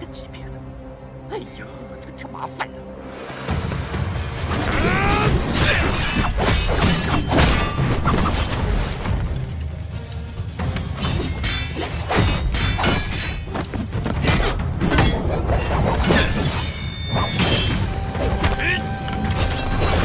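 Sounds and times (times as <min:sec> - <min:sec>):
loud background music: 0:00.1 - 0:20.0.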